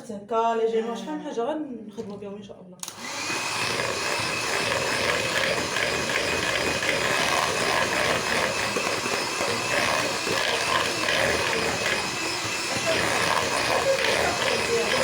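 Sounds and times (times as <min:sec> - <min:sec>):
electric mixer whining: 0:02.8 - 0:15.0.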